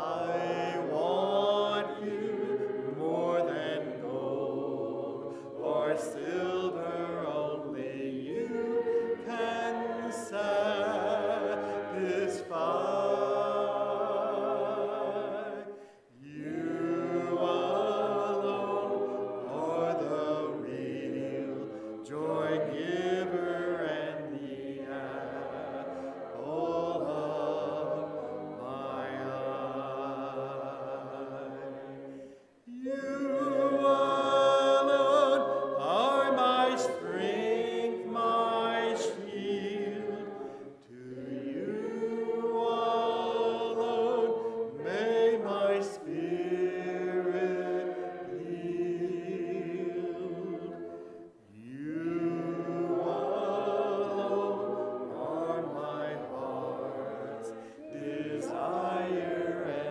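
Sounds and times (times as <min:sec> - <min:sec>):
a cappella hymn singing: 0:00.0 - 0:59.9.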